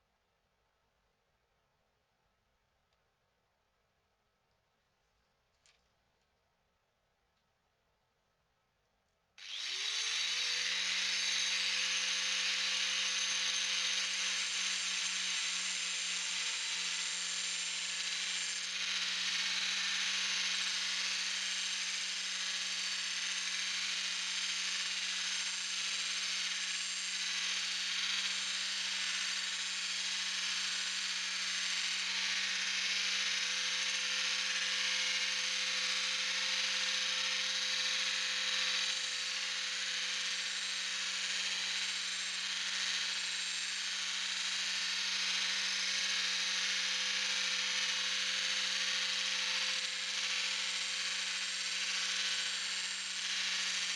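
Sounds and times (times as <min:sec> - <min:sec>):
angle grinder grinding metal: 0:09.4 - 0:53.9.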